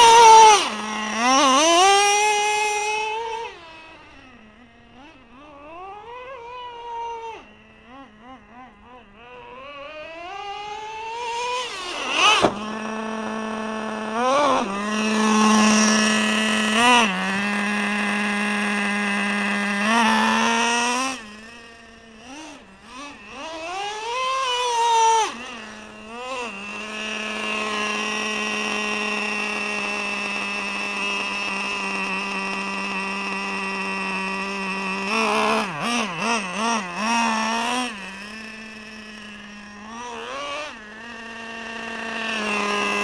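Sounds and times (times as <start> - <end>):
model truck engine revving: 0.0 - 43.0.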